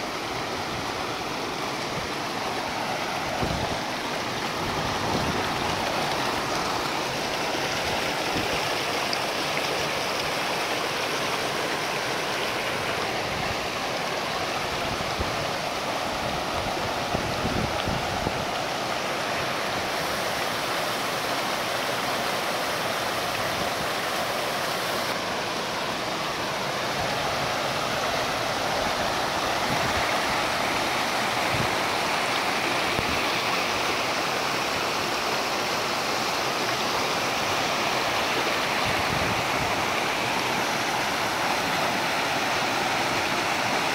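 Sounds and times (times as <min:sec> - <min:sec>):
creek rushing over rocks: 0:00.0 - 0:43.9.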